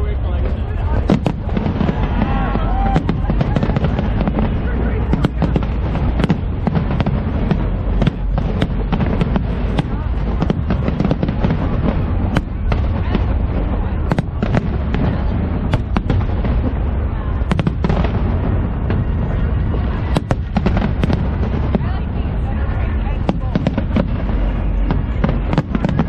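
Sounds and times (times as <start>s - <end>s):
low rumble: 0.0s - 26.0s
firework cracks: 0.6s - 26.0s.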